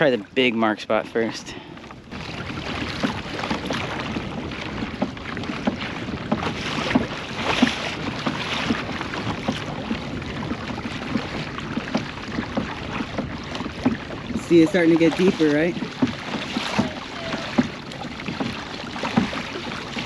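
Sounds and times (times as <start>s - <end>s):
water sloshing along a hull: 0.0s - 20.0s.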